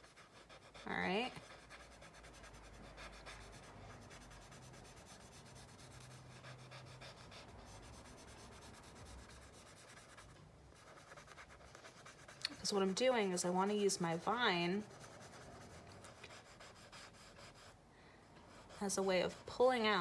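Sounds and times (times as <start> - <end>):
charcoal rubbing on paper: 0.0 - 17.8, 18.5 - 20.0.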